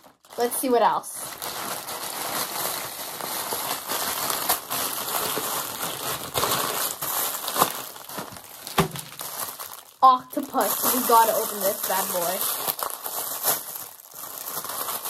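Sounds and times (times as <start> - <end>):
plastic packaging crinkling: 0.0 - 15.0
sharp plastic crackles: 0.0 - 15.0.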